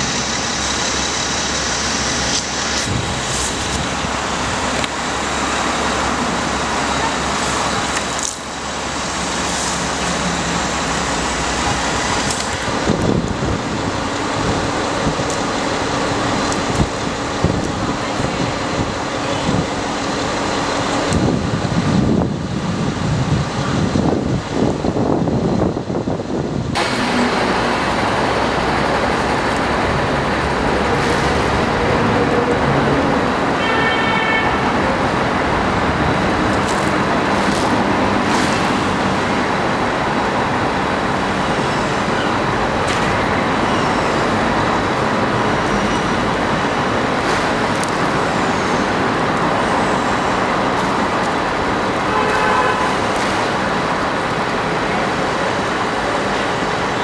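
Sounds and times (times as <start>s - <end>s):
road traffic engines: 0.0s - 57.0s.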